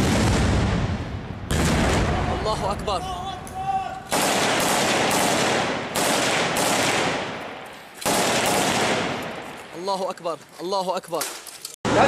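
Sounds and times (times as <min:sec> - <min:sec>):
rifle shots echoing: 0:00.0 - 0:09.7.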